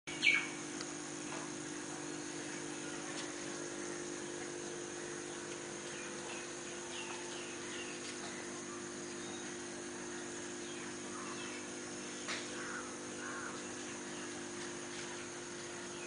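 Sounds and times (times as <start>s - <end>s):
car engine idling: 0.7s - 16.0s.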